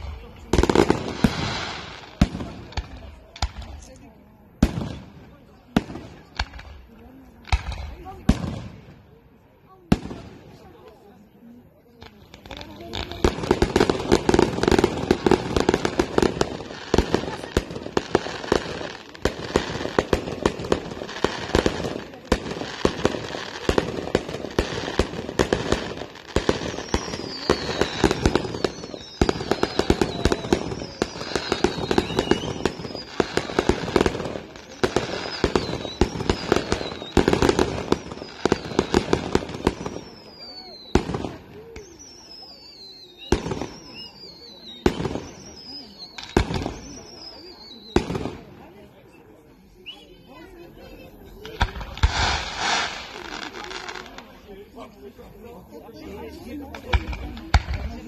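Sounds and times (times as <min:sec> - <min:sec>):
fireworks bursting and crackling: 0:00.0 - 0:58.0
whistling fireworks: 0:00.0 - 0:58.0.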